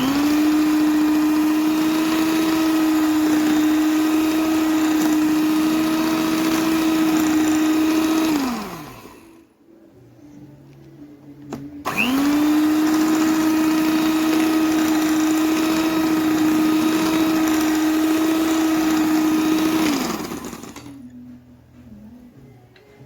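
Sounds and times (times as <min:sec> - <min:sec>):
electric hand mixer whining: 0:00.0 - 0:09.4, 0:11.8 - 0:21.0.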